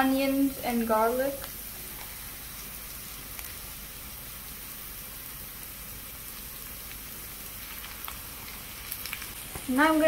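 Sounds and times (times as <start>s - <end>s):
food sizzling in a skillet: 0.0s - 10.0s.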